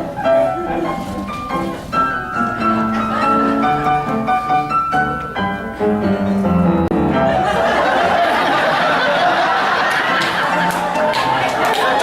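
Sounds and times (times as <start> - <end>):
piano playing: 0.0 - 12.0.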